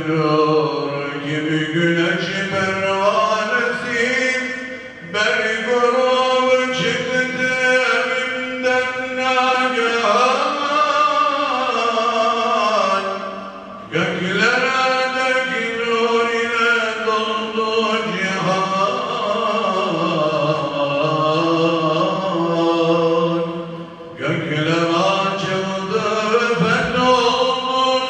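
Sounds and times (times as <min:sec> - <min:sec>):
man singing a hymn unaccompanied: 0:00.0 - 0:28.0.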